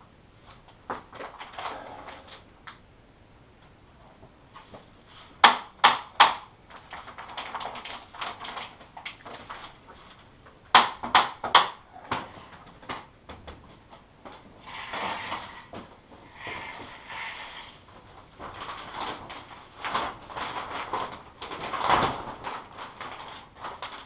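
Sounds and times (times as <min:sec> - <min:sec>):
plastic sheet crinkling: 0:00.4 - 0:02.5, 0:04.6 - 0:13.1, 0:13.7 - 0:24.0.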